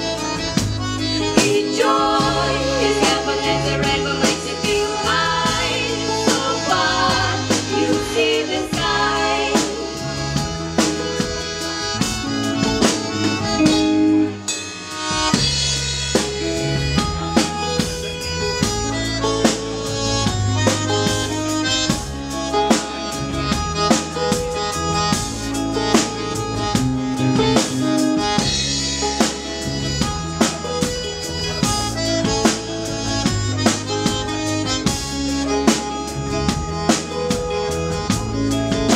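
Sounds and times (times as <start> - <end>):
bass guitar: 0.0 - 38.9
drum kit steady beat: 0.0 - 38.9
electric guitar: 0.0 - 38.9
keyboard: 0.0 - 38.9.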